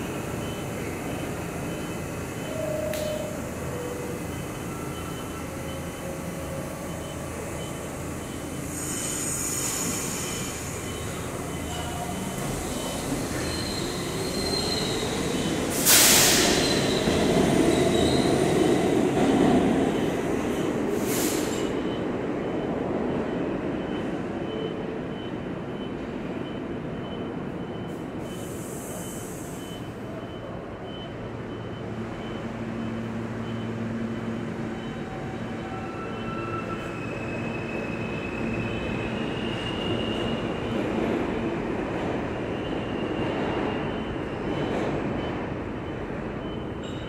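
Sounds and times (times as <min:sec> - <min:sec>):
subway train rumble: 0:00.0 - 0:47.0.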